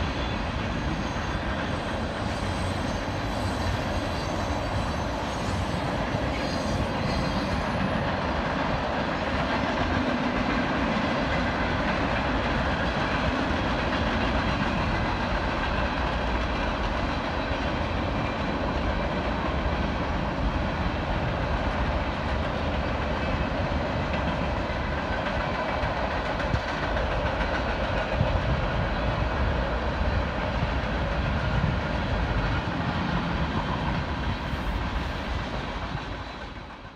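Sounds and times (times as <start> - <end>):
freight train rolling past: 0.0 - 36.9.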